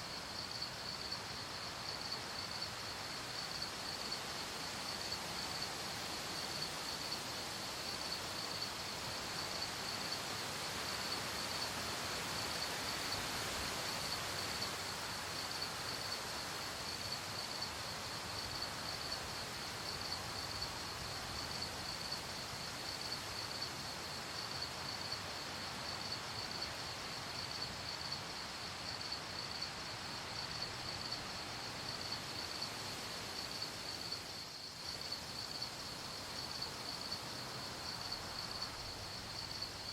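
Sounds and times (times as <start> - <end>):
crickets chirping: 0.0 - 39.9
soft steady hiss: 0.0 - 39.9.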